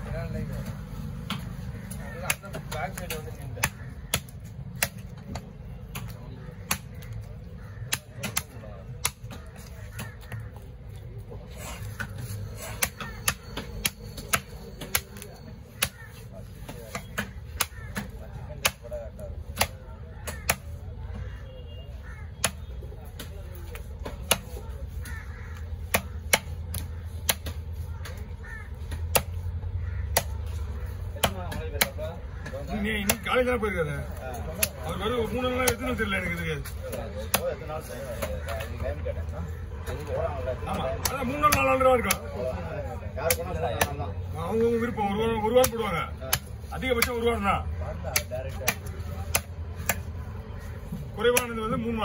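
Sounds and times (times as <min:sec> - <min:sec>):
background murmur: 0:00.0 - 0:52.0
crows cawing: 0:00.7 - 0:52.0.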